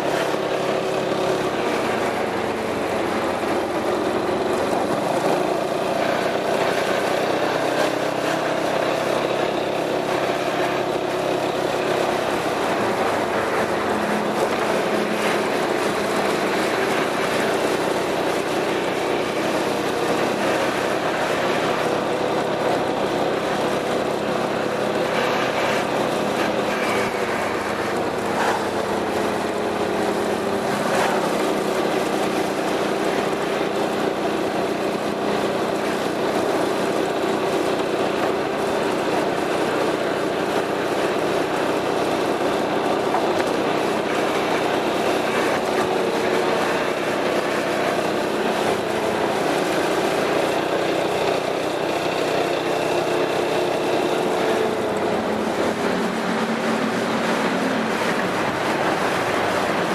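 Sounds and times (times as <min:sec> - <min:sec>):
scooter engine running: 0:00.0 - 0:59.9.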